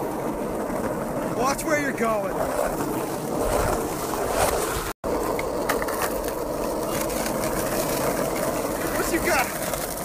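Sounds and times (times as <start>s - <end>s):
skateboard wheels rolling on pavement: 0.0s - 10.0s.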